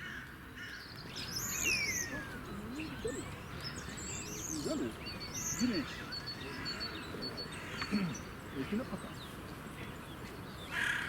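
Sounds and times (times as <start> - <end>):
birds warbling: 0.6 - 11.0.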